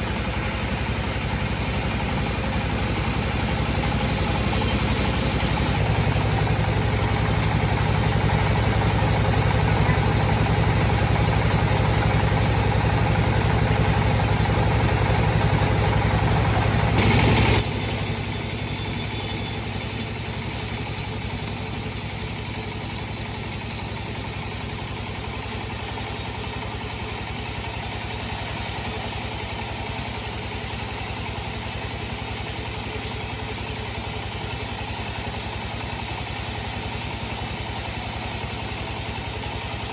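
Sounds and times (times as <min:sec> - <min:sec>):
bandsaw machine running: 0:00.0 - 0:39.9.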